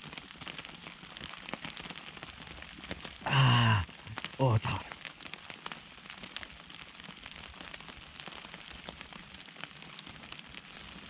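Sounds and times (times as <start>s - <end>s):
rain pattering on tarp: 0.0s - 11.0s.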